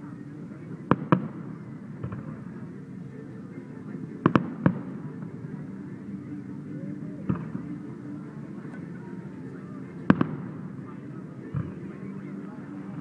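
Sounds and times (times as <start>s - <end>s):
low background din: 0.0s - 13.0s.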